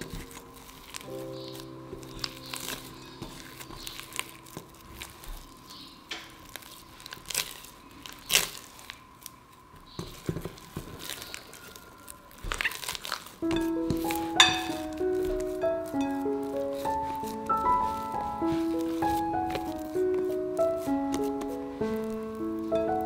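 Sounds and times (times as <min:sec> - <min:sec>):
hand kneading dough: 0:00.0 - 0:23.0.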